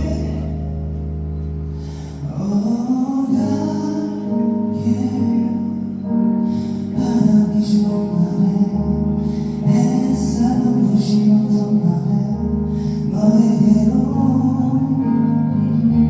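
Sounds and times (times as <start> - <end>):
person singing a ballad: 0.0 - 16.0.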